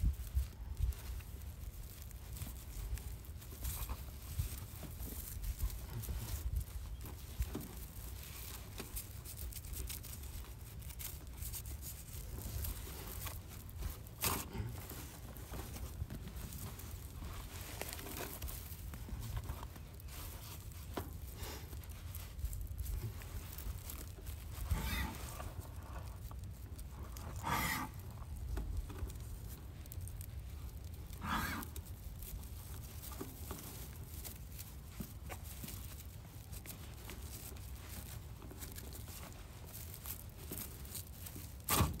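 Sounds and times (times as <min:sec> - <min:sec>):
hose and cord rustling: 0:00.0 - 0:42.0.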